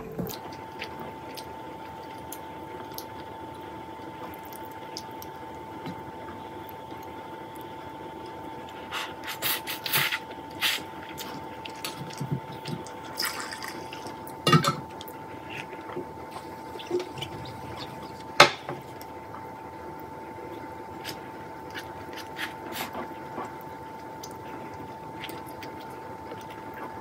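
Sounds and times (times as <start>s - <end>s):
wet chewing and mouth smacks: 0.3s - 3.3s, 4.1s - 20.1s, 21.0s - 27.0s.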